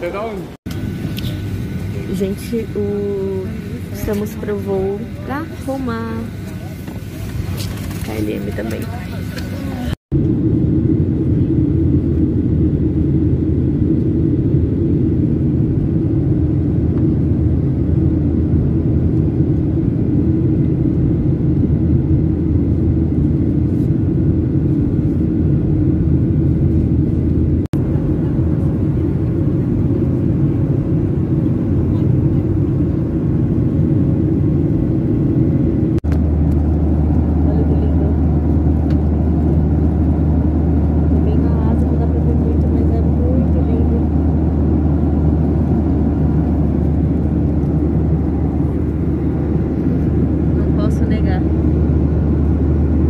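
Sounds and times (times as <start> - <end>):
jet cabin engine rumble: 0.0 - 53.0.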